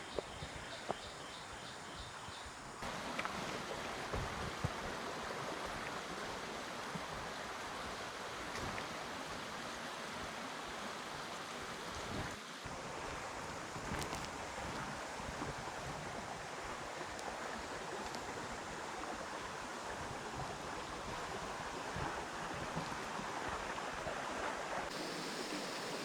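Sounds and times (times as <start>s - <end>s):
stream rushing water: 2.8s - 26.0s.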